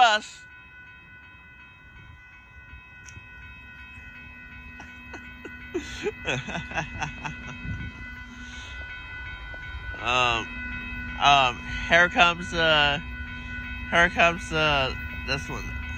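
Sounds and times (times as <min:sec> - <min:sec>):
crossing warning bells ringing: 0:00.0 - 0:15.9
steady low tone: 0:00.4 - 0:15.9.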